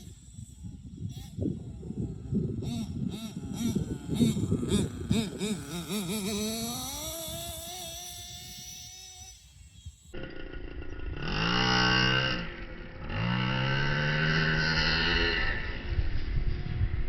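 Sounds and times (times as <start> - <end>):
rc car engine revving: 0.0 - 17.0.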